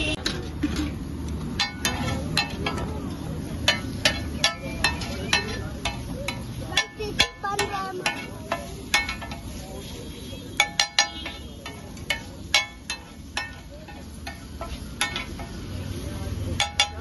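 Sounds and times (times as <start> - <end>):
metal spatula striking griddle: 0.0 - 17.0.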